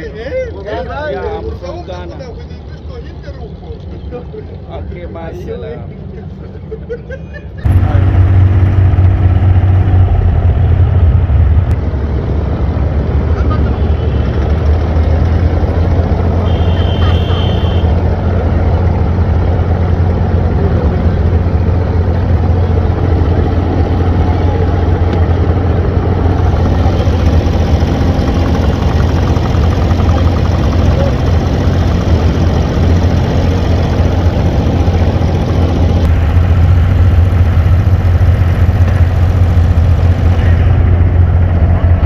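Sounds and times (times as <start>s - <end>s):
boat diesel engine droning: 0.0s - 6.7s, 7.6s - 42.0s.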